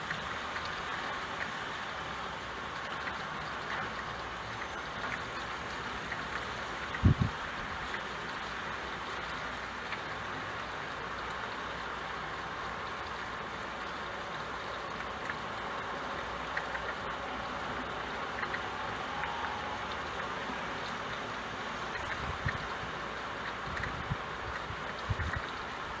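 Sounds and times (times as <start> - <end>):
faint drip ticks: 0.0 - 26.0
steady rain hiss: 0.0 - 26.0.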